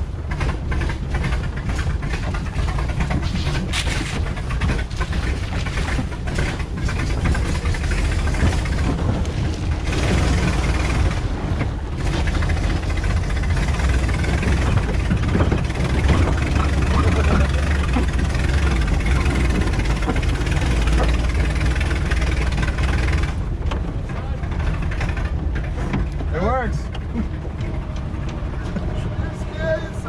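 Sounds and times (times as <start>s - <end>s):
engine rumbling: 0.0s - 30.0s
vehicle body rattling and knocking: 0.0s - 30.0s.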